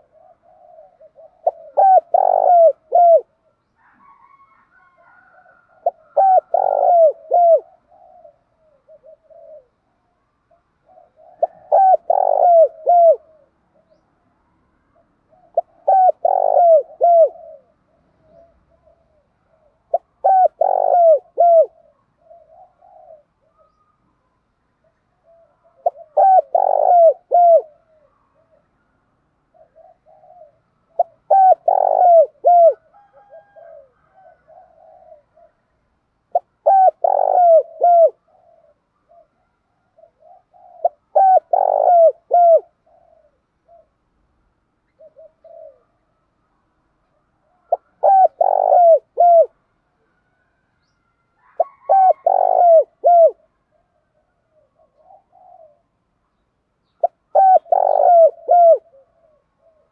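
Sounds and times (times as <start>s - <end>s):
dove cooing: 0.0s - 14.0s, 14.9s - 44.2s, 44.9s - 46.2s, 47.0s - 56.1s, 56.9s - 59.9s.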